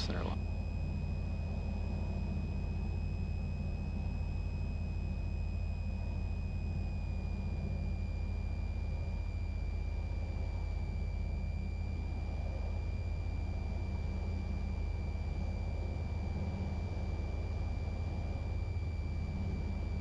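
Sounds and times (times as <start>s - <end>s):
airplane engine and propeller drone: 0.0s - 20.0s
high-pitched whine: 0.0s - 20.0s.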